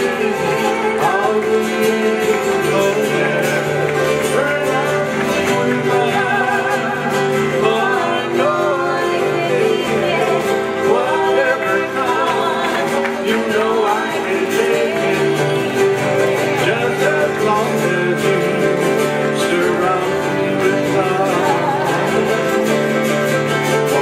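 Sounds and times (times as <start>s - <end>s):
person singing with vibrato: 0.0s - 24.0s
ukuleles and guitar strummed: 0.0s - 24.0s.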